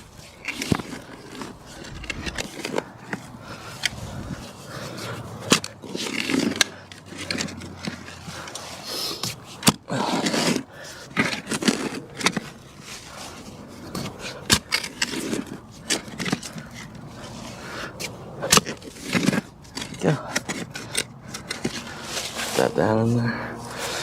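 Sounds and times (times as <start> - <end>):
shovel scraping dirt: 0.0 - 24.0.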